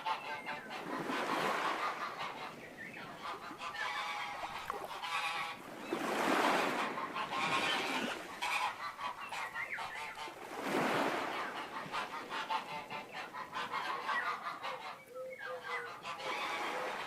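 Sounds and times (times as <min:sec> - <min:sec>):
geese honking: 0:00.0 - 0:05.6, 0:06.8 - 0:10.4, 0:11.3 - 0:17.0.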